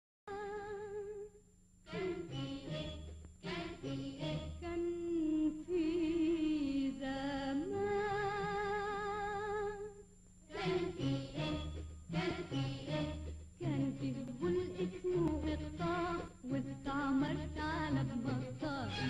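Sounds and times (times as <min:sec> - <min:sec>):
woman singing with vibrato: 0:01.9 - 0:19.0.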